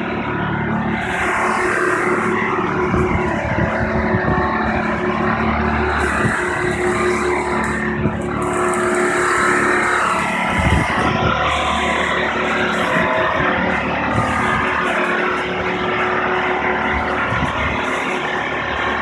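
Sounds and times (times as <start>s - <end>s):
travel lift engine running: 0.0s - 19.0s.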